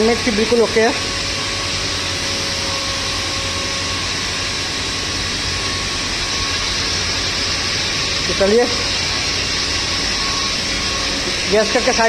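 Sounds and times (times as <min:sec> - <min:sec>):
machine drone with hum and hiss: 0:00.0 - 0:12.0.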